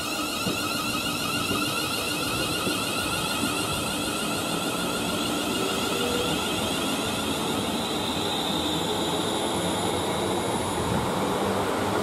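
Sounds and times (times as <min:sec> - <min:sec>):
high electric whine: 0:00.0 - 0:11.6
train wheels rushing on rail: 0:00.0 - 0:12.0.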